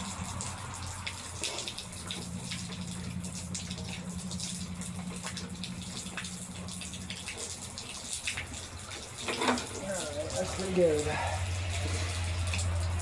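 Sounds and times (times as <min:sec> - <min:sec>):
rainwater running: 0:00.0 - 0:13.0.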